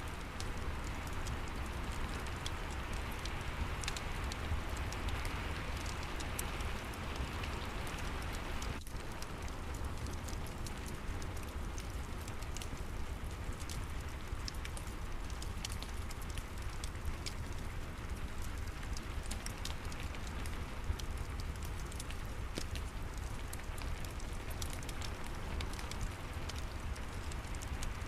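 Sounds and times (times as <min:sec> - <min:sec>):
fireplace crackling: 0:00.0 - 0:28.0
steady rain: 0:00.0 - 0:28.0.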